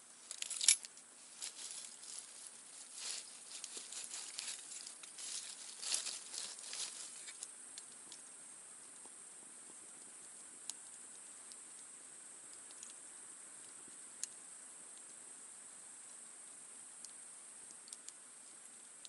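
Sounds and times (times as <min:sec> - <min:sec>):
soft steady hiss: 0:00.0 - 0:19.0
campfire crackling and popping: 0:00.2 - 0:19.0.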